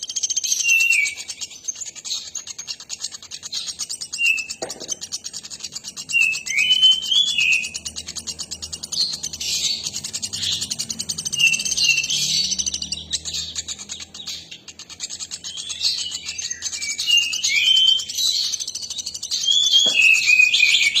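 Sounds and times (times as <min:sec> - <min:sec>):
nuthatch trilled chatter: 0:00.0 - 0:21.0.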